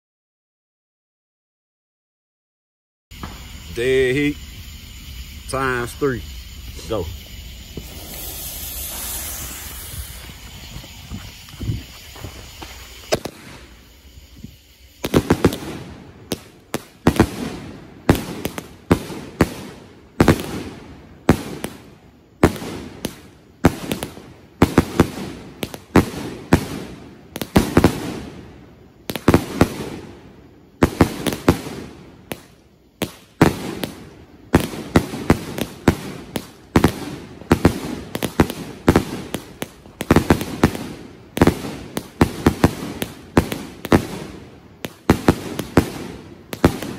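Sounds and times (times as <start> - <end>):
burning fuse hissing: 3.1 - 46.9
firework launches and bangs: 3.1 - 46.9.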